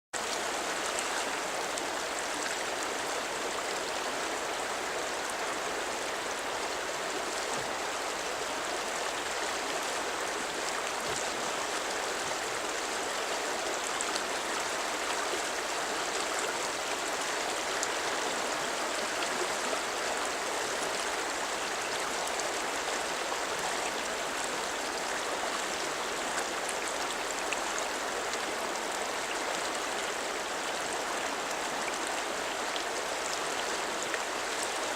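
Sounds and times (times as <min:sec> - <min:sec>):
river water rushing: 0:00.2 - 0:34.9.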